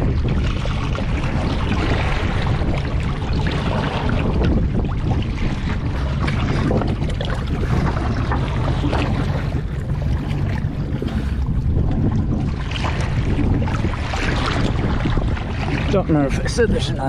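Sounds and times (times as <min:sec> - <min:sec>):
steady low rumble: 0:00.0 - 0:17.0
water sloshing and splashing: 0:00.0 - 0:17.0
wind buffeting microphone: 0:00.0 - 0:17.0.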